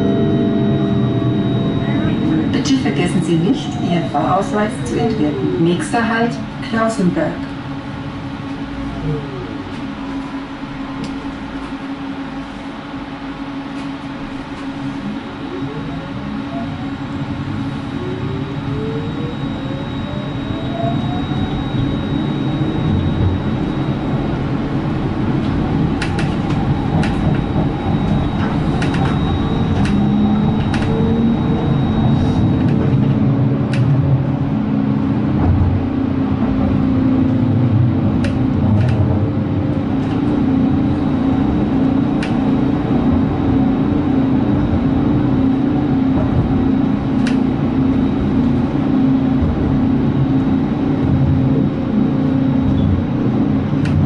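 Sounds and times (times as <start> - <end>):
electric tram running: 0.0 - 54.0
tram drive whining: 0.0 - 54.0.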